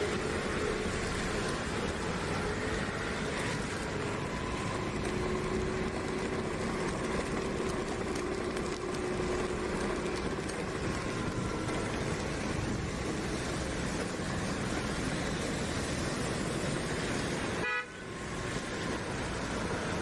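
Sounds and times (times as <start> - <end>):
tyres hissing on wet road: 0.0 - 20.0.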